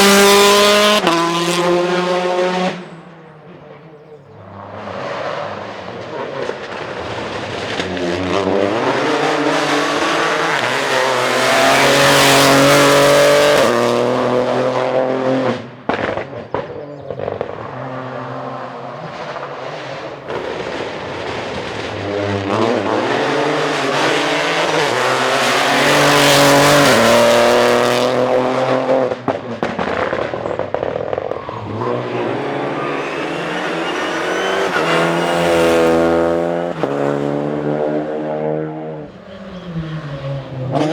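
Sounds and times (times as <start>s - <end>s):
rally car engines at full throttle: 0.0s - 40.9s.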